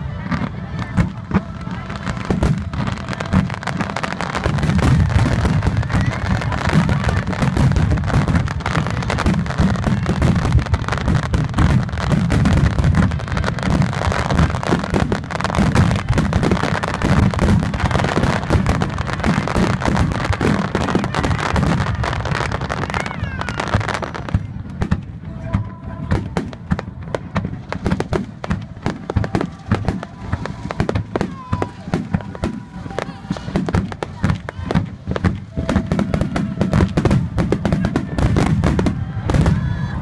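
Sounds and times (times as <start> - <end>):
fireworks booms and crackles: 0.0 - 40.0.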